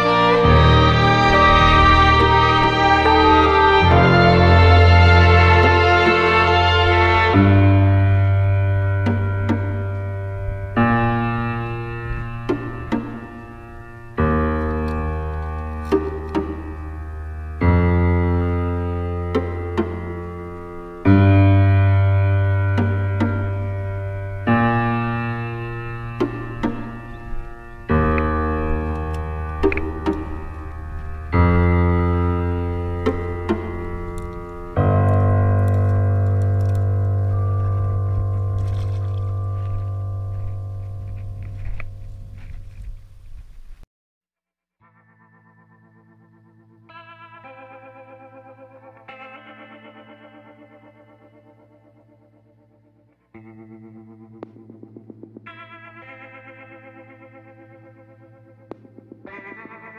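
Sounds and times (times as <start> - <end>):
slow held chords: 0.0 - 43.4, 44.8 - 59.9.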